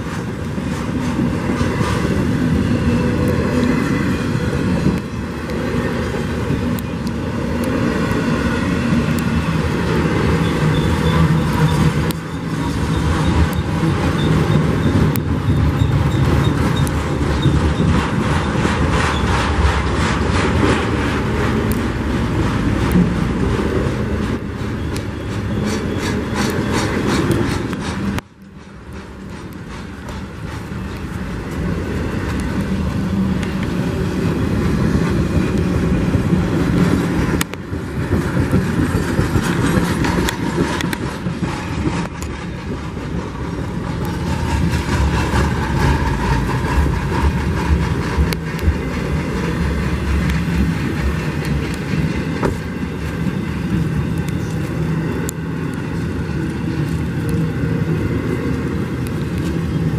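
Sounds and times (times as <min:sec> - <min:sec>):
freight train rolling past: 0:00.0 - 0:59.9
sharp clacks of wheels on rail: 0:00.0 - 0:59.9.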